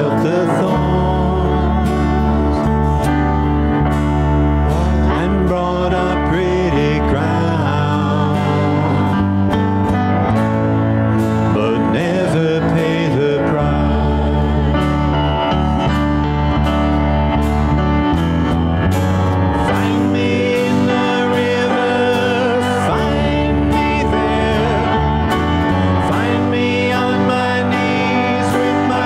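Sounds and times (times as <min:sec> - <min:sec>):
person singing: 0:00.0 - 0:09.9, 0:11.3 - 0:16.2, 0:19.5 - 0:29.0
band playing worship song: 0:00.0 - 0:29.0.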